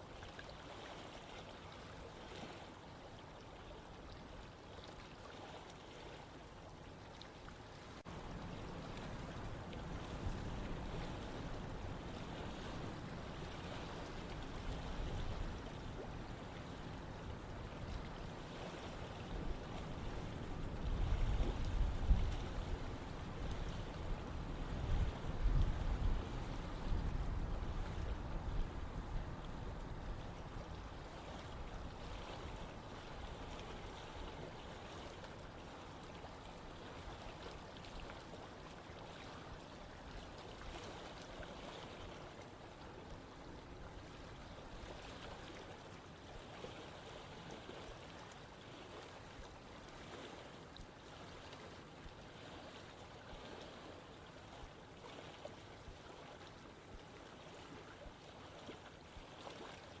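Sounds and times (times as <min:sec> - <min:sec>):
stream water rushing: 0:00.0 - 1:00.0.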